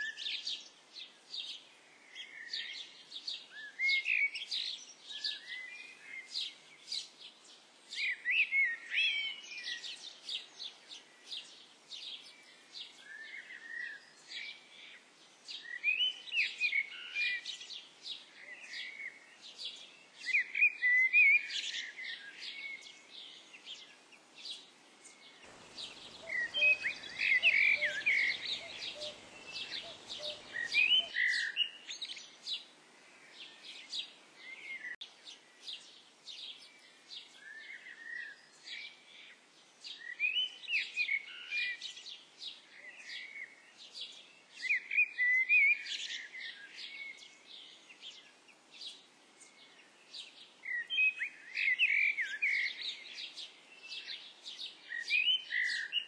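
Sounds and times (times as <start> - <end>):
birds chirping and singing: 1.3 - 56.0.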